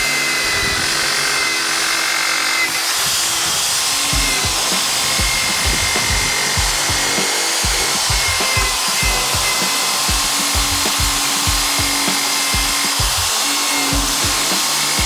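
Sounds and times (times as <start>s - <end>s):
wire brush drill scrubbing rust: 0.0s - 15.0s.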